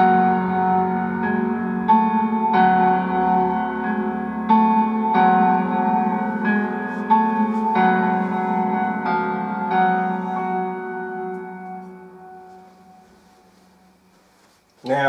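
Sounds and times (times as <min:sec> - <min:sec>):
slow piano music: 0:00.0 - 0:14.8.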